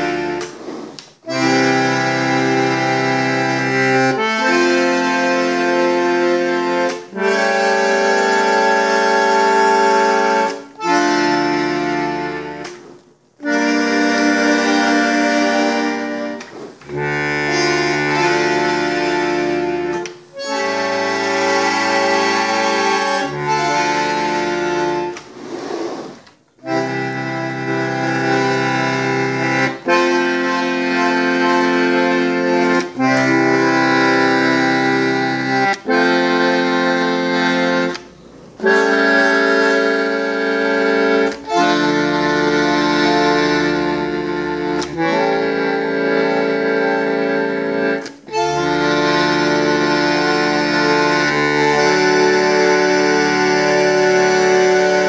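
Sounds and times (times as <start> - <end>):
bandoneon sustained chords: 1.2 - 12.8, 13.4 - 25.2, 26.6 - 55.0.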